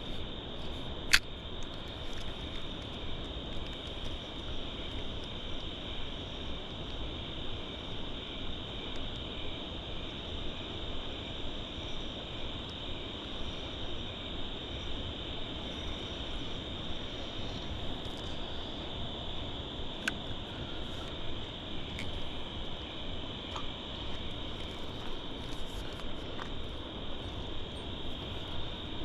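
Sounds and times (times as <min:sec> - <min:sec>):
night insects trilling: 0:00.0 - 0:29.0.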